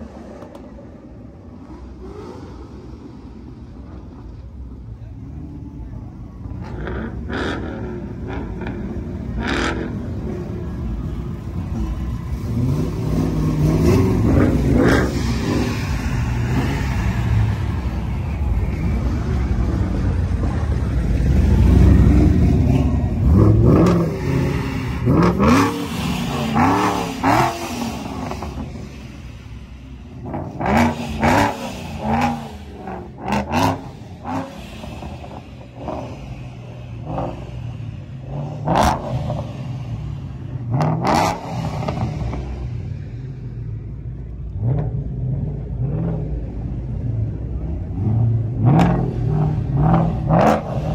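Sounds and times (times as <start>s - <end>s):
motorcycle engine rumbling: 0.0s - 41.0s
vehicles driving past revving: 0.0s - 50.9s.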